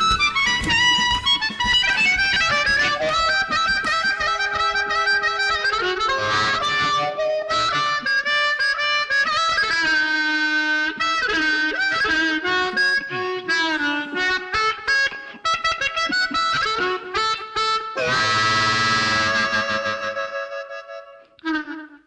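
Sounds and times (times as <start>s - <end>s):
harmonica melody: 0.0s - 22.0s.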